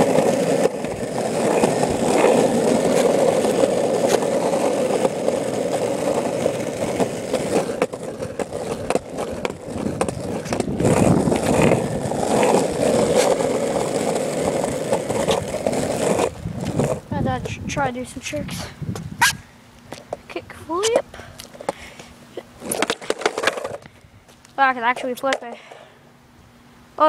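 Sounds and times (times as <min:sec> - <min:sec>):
skateboard wheels clicking: 0:00.0 - 0:17.6, 0:19.2 - 0:23.9, 0:24.9 - 0:25.7
skateboard rolling over asphalt: 0:00.0 - 0:24.1.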